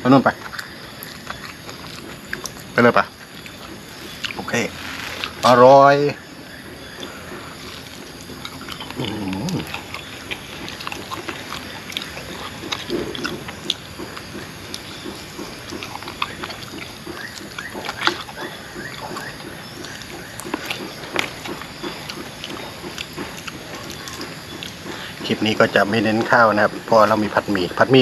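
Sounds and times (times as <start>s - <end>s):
man chewing meat off bone: 0.6s - 5.5s, 6.7s - 25.4s.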